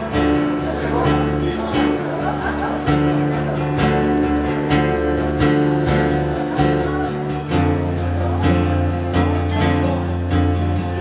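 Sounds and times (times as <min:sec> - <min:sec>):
acoustic guitars strummed: 0:00.0 - 0:11.0.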